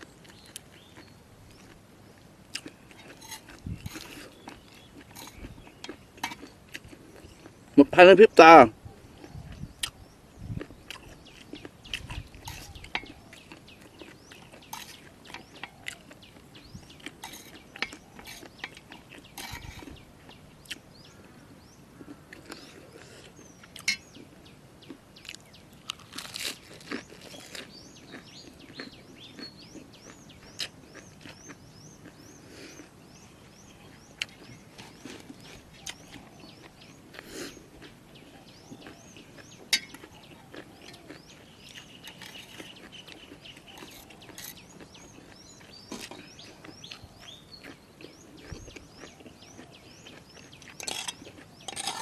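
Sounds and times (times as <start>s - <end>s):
chewing crunchy food: 0.0s - 7.8s, 8.9s - 52.0s
birds chirping: 0.0s - 52.0s.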